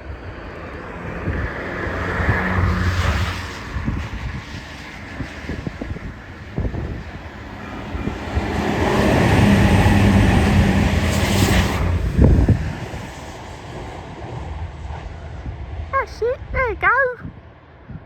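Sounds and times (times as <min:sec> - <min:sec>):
train passing: 0:00.0 - 0:17.8
wind buffeting microphone: 0:00.0 - 0:18.0.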